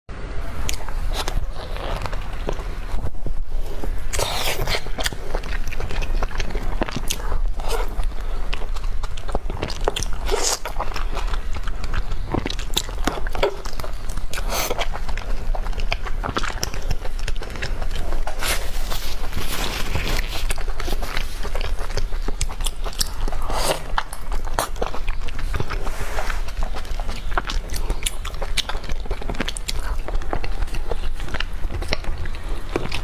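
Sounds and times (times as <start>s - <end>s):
wet biting and chewing: 0.6s - 33.0s.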